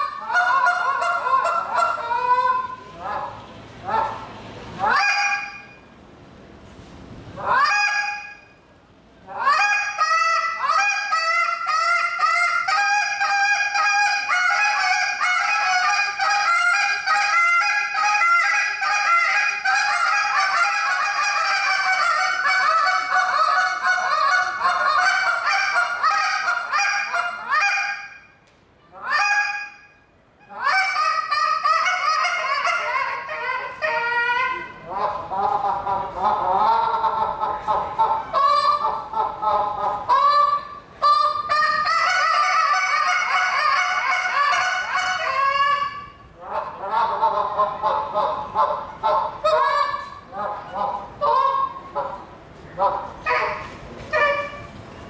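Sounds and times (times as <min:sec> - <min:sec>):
goose call honking: 0:00.0 - 0:05.8, 0:07.4 - 0:08.6, 0:09.3 - 0:28.3, 0:28.9 - 0:54.7.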